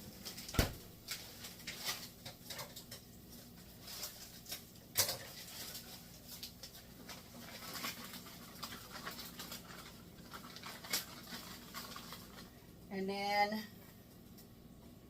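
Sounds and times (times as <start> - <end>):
wine simmering in skillet: 0.0 - 12.9.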